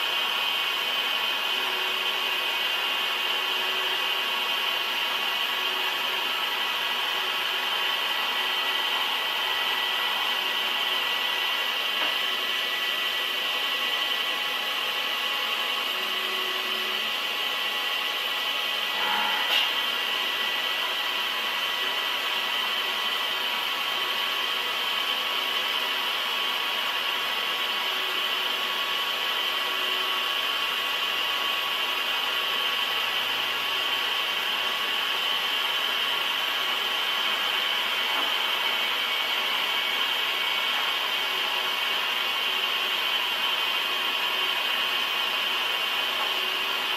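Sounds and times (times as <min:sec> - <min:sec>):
metalworking lathe running: 0:00.0 - 0:46.9.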